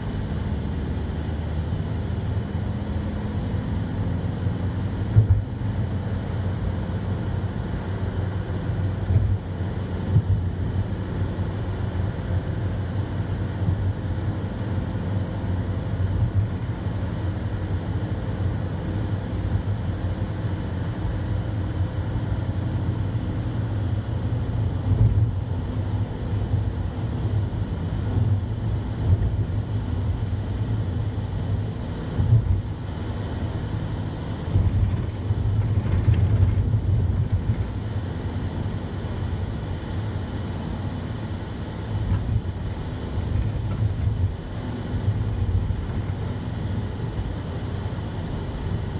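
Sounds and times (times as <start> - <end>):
vehicle driving on road: 0.0 - 48.9.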